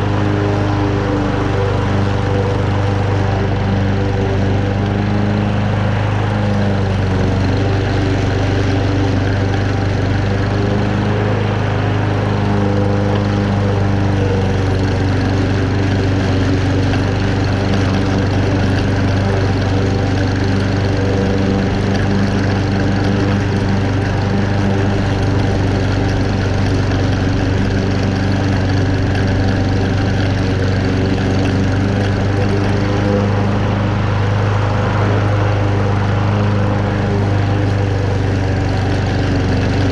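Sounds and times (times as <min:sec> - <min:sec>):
lawn mower engine droning: 0:00.0 - 0:39.9.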